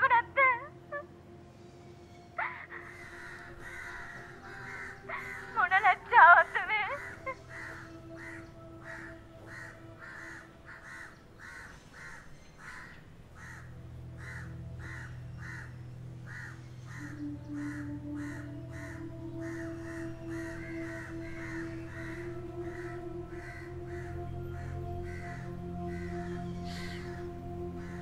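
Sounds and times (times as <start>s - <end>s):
low steady drone: 0.0s - 28.0s
crows cawing: 2.0s - 28.0s.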